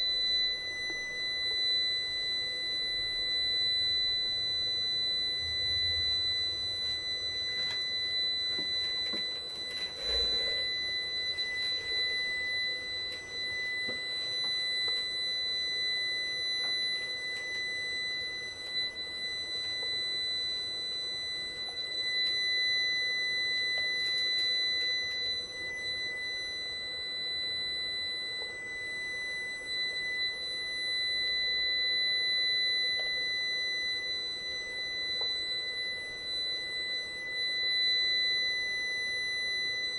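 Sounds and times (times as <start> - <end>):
high-pitched electronic tone: 0.0 - 39.5.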